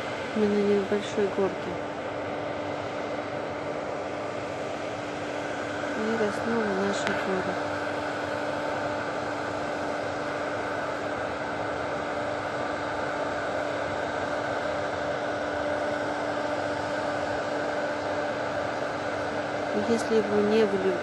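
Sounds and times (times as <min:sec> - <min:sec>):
machine drone: 0:00.0 - 0:21.0.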